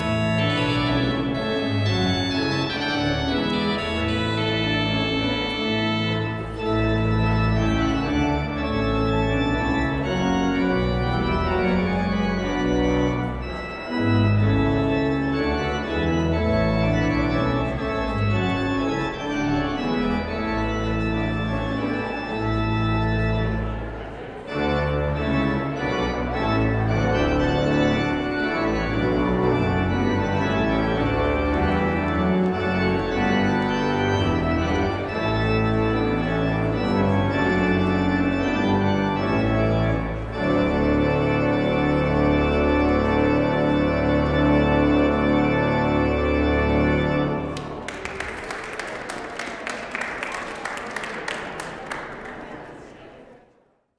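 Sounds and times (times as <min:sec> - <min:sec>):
organ playing chords: 0:00.0 - 0:52.0.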